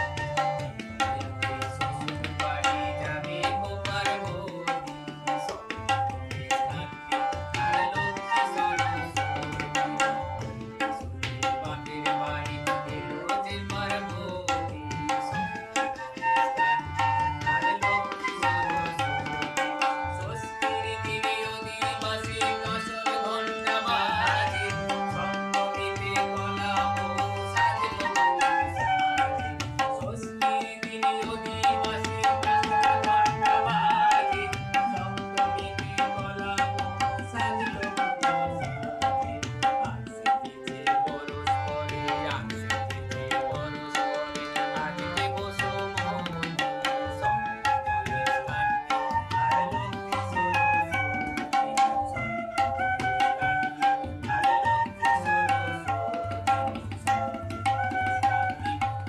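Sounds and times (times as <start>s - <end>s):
harmonium melody: 0.0s - 59.0s
tabla strokes: 0.0s - 59.0s.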